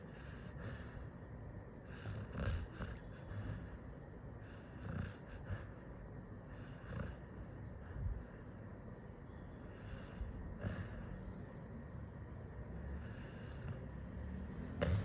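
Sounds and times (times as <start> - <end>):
dog snoring: 0.0 - 8.9, 9.6 - 11.8, 12.8 - 15.0.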